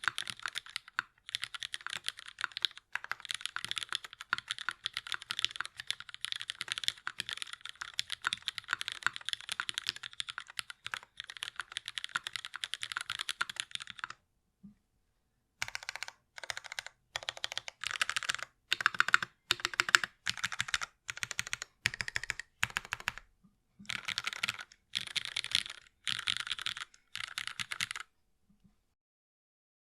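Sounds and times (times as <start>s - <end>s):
mechanical keyboard typing: 0.0s - 14.2s, 15.6s - 23.2s, 23.8s - 28.1s.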